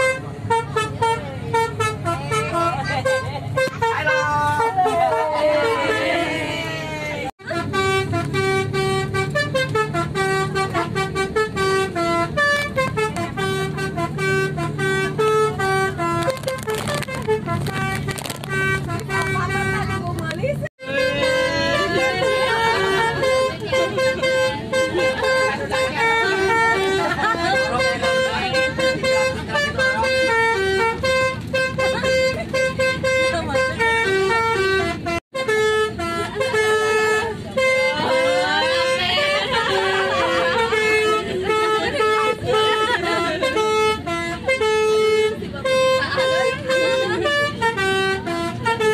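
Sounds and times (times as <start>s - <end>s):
musical air horn tune: 7.4s - 20.1s, 20.8s - 48.9s.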